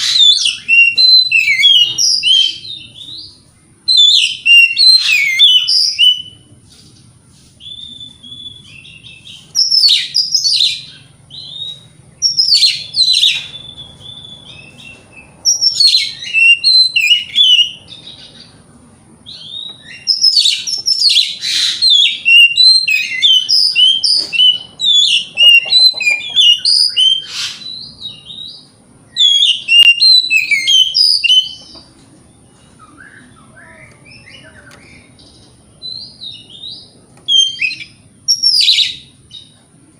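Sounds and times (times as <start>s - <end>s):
bird singing whistled phrases: 0.0s - 6.5s, 7.6s - 18.2s, 19.3s - 31.8s, 32.8s - 35.2s, 35.8s - 39.5s.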